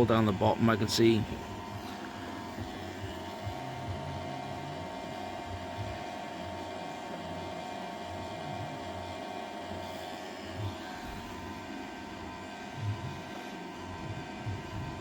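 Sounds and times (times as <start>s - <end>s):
smoke machine humming: 0.0s - 15.0s.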